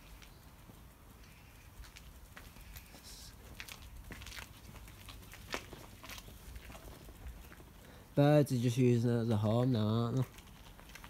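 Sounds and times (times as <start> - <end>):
light ticks and rustles: 0.0 - 11.0.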